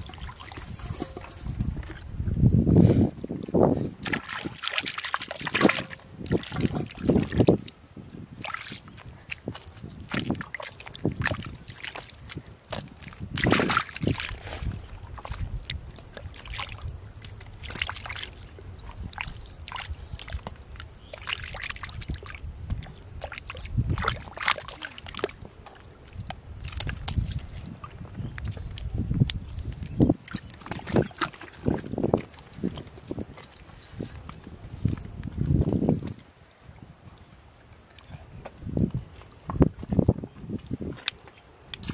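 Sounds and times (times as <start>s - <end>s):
wet mud squelching and sloshing: 0.0s - 41.9s.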